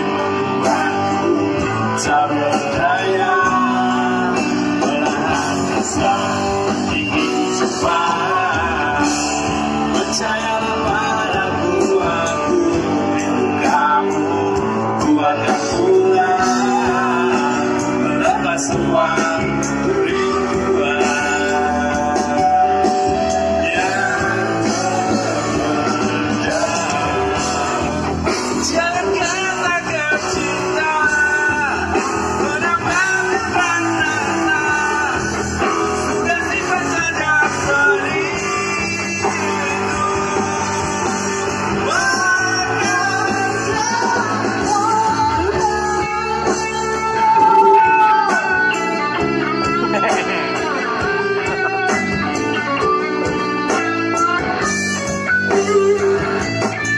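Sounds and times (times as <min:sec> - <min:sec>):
drums: 0:00.0 - 0:56.9
electric guitars: 0:00.0 - 0:56.9
person singing: 0:00.0 - 0:56.9.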